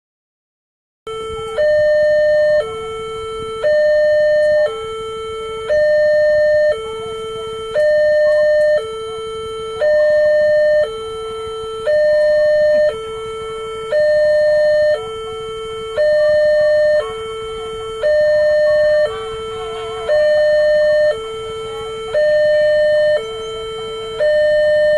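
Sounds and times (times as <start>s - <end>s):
level crossing alarm two tones: 1.1s - 24.9s.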